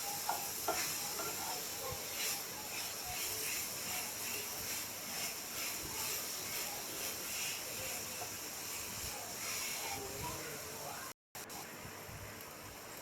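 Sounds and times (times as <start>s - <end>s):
spoon scraping a pan: 0.0s - 10.5s
steady hiss: 0.0s - 13.0s.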